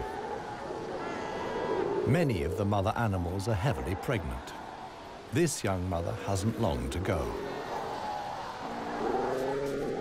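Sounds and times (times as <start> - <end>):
seal calling: 0.0 - 10.0.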